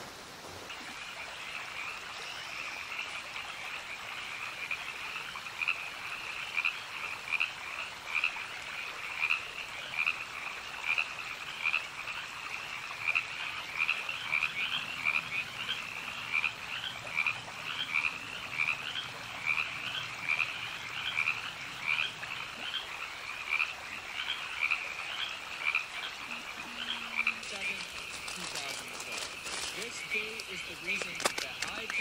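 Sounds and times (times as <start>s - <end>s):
frogs croaking: 0.6s - 32.0s.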